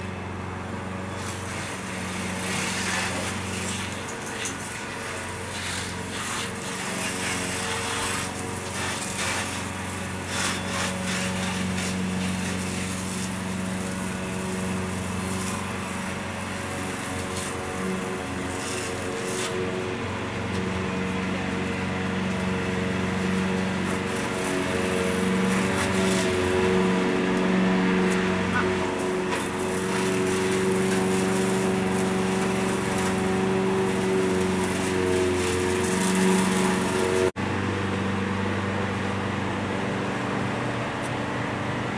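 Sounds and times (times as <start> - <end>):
small motor running: 0.8 - 37.9.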